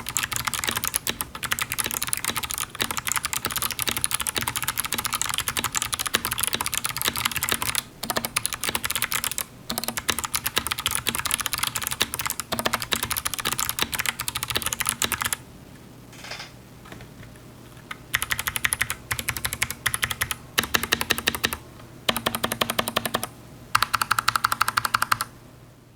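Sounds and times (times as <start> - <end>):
mechanical keyboard typing: 0.0 - 15.4, 17.9 - 25.3.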